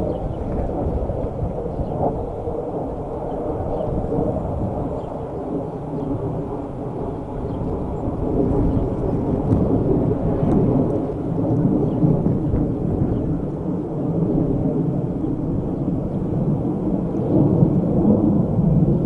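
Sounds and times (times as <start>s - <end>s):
thunder rumbling: 0.0s - 19.0s.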